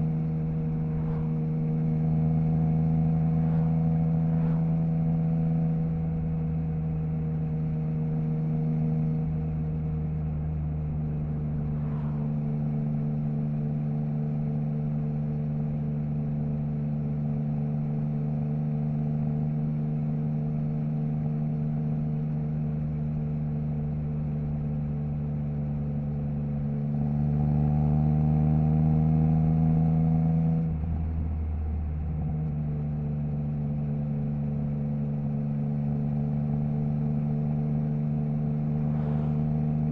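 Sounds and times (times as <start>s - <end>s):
motorcycle engine running: 0.0s - 27.1s, 30.6s - 39.9s.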